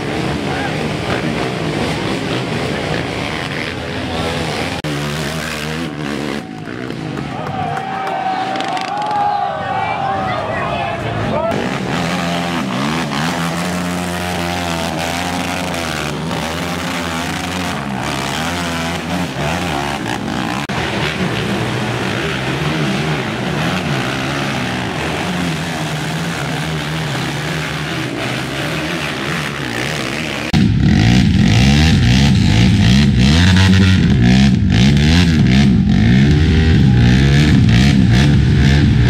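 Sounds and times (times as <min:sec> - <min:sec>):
quad engines revving: 0:00.0 - 0:09.3, 0:10.1 - 0:39.0.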